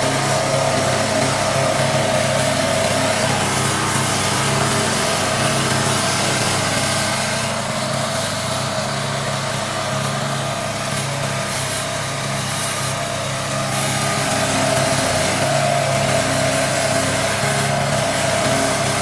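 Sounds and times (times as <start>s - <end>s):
grass cutter engine running: 0.0s - 19.0s.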